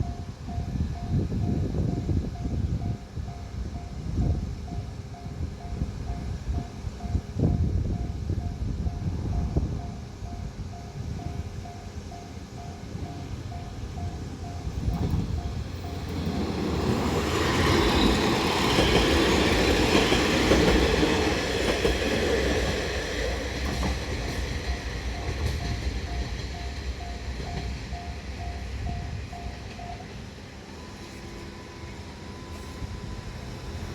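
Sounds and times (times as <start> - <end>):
crossing warning bell dinging: 0.0 - 33.9
train passing: 0.0 - 33.9.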